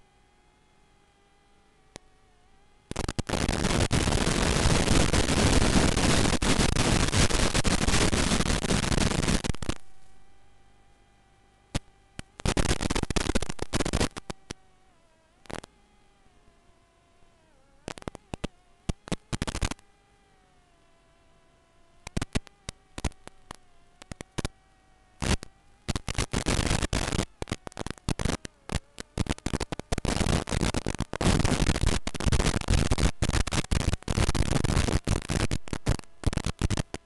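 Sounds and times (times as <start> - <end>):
faint steady whine: 0.0 - 37.0
radio static crackling: 0.0 - 37.0.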